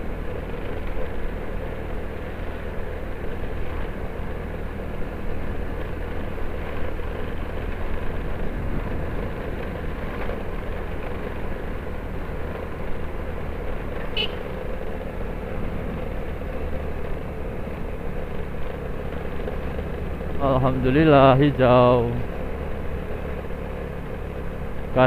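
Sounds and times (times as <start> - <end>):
motorcycle engine running: 0.0 - 25.0
road and traffic noise: 0.0 - 25.0.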